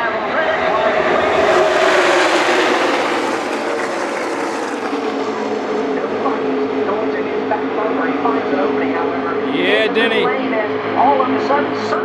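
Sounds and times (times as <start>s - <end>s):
race cars engine drone: 0.1s - 10.3s.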